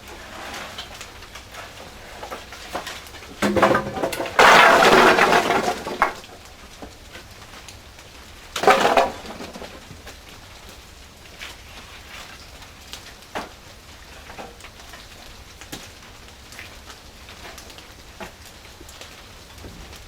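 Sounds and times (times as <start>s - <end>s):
firewood clattering and cracking: 0.0s - 20.0s.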